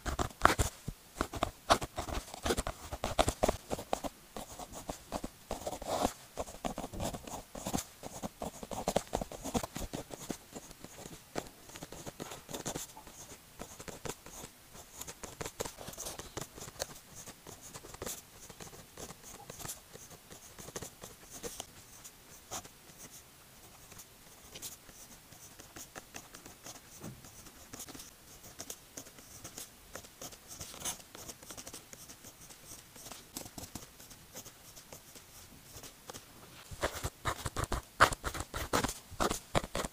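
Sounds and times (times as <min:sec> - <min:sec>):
pen scratching on paper: 0:00.0 - 0:39.9.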